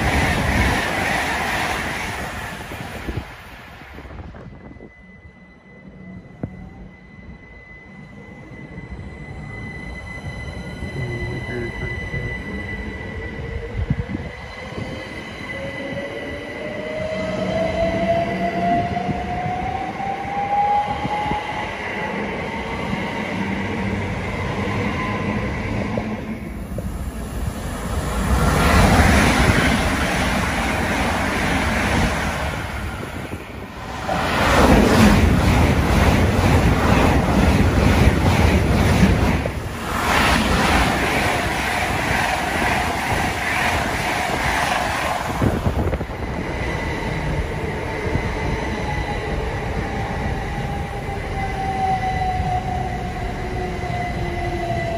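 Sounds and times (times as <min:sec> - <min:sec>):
electric train whine: 0:00.0 - 0:54.9
train passing at speed: 0:00.0 - 0:54.9.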